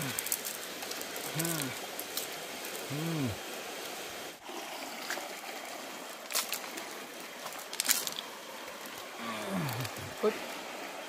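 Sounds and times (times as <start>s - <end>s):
river flowing: 0.0s - 11.0s.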